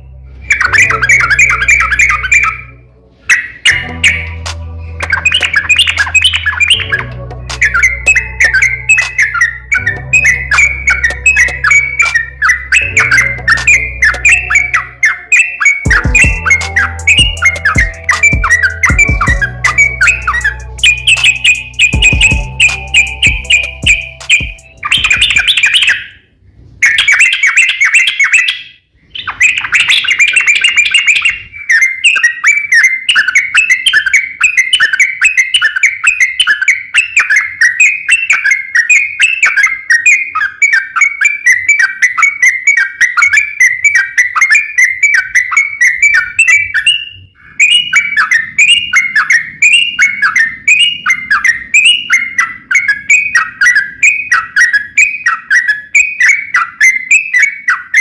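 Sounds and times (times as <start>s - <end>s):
songbird chattering song: 0.0s - 26.2s, 26.8s - 58.0s.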